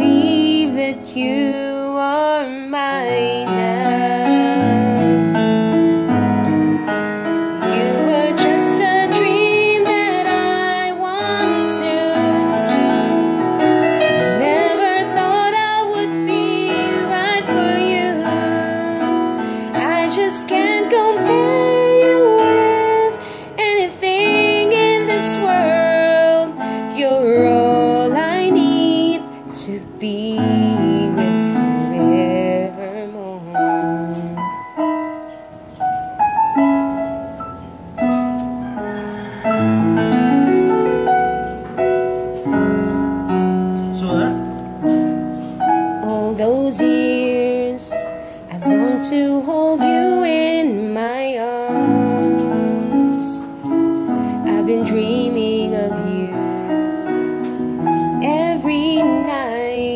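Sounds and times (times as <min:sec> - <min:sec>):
electronic keyboard playing ballad: 0:00.0 - 0:59.9.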